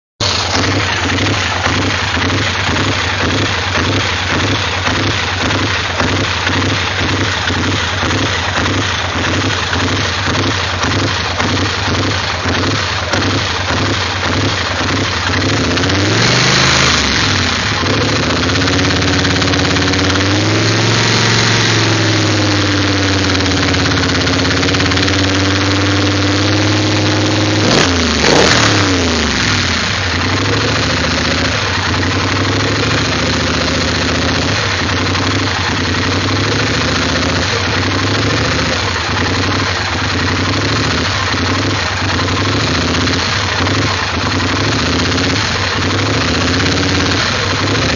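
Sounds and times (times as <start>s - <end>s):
engine idling roughly: 0.0s - 47.9s.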